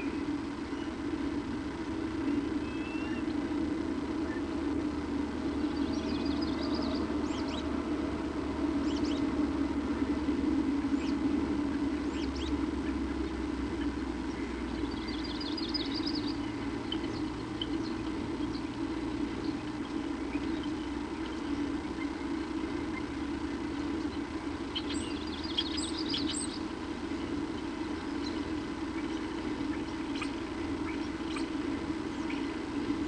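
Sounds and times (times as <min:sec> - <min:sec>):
bird chirps: 0:00.0 - 0:01.0, 0:02.2 - 0:03.3, 0:05.4 - 0:07.8, 0:08.8 - 0:09.3, 0:10.9 - 0:32.6
steady low hum: 0:00.0 - 0:33.0.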